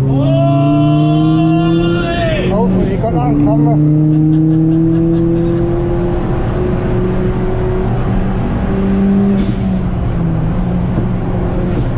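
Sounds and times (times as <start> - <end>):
car engine under full throttle: 0.0 - 11.9
road and wind noise: 0.0 - 11.9.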